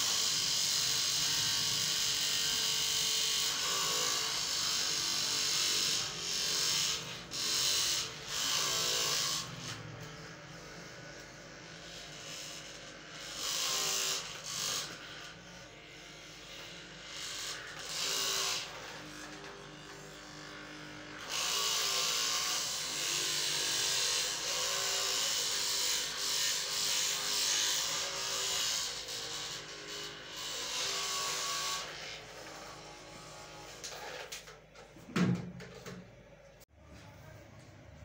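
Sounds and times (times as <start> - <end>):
small electric motor buzzing: 0.0 - 34.5.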